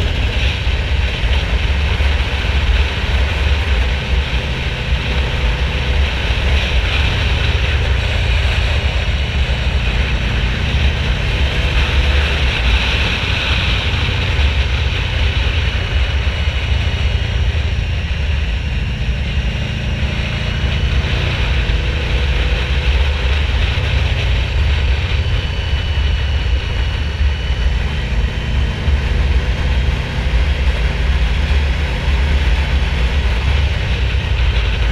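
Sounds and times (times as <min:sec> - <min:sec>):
low wind rumble: 0:00.0 - 0:34.9
motorcycle engine running: 0:00.0 - 0:34.9.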